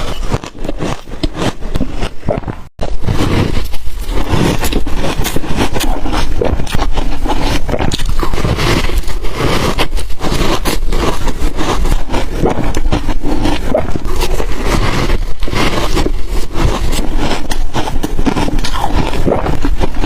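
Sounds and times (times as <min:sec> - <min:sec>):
ice crunching in mouth: 0:00.0 - 0:20.0.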